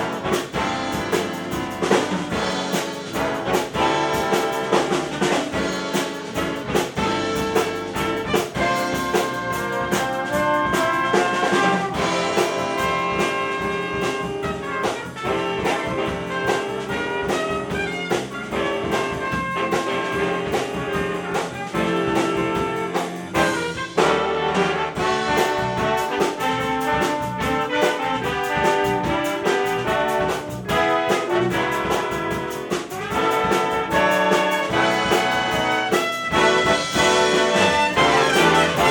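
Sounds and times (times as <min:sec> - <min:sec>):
drums keeping a steady beat: 0:00.0 - 0:38.9
jazz big band playing: 0:00.0 - 0:38.9
trumpets and trombones: 0:00.0 - 0:38.9.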